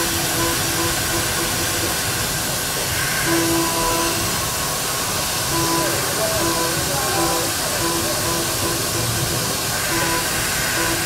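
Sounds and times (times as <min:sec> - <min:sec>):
milling machine cutting aluminium: 0:00.0 - 0:11.0.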